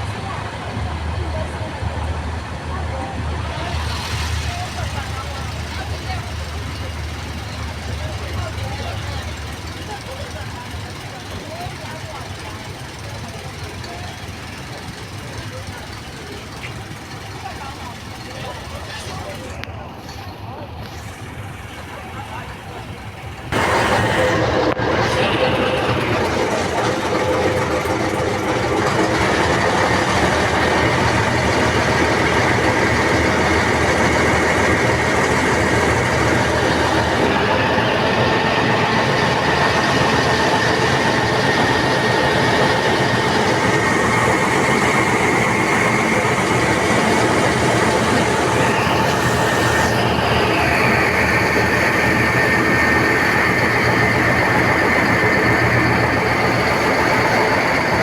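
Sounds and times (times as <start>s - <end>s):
train rumbling and rattling: 0.0s - 58.0s.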